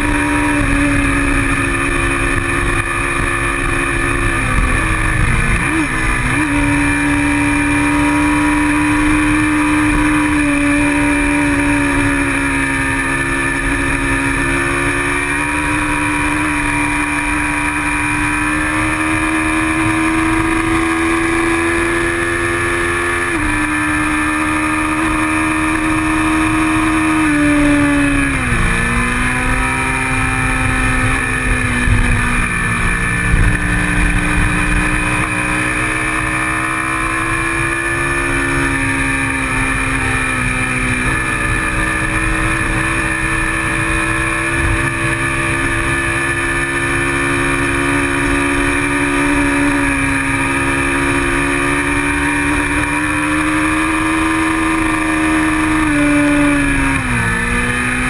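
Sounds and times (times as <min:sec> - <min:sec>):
motorcycle engine racing: 0:00.0 - 0:58.0.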